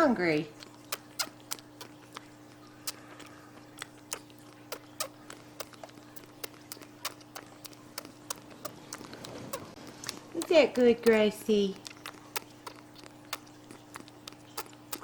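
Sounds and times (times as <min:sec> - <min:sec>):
monkey sucking on bottle: 0:00.6 - 0:15.0.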